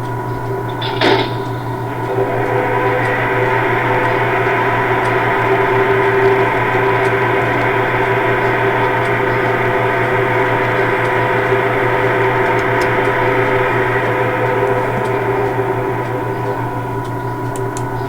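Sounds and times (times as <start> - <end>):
locomotive droning hum: 0.0 - 18.0.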